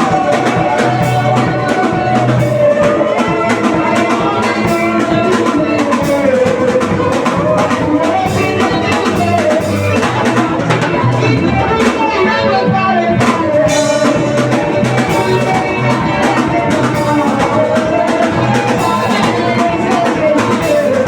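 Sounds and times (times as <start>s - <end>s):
drum kit beating: 0.0s - 21.0s
upbeat worship music: 0.0s - 21.0s.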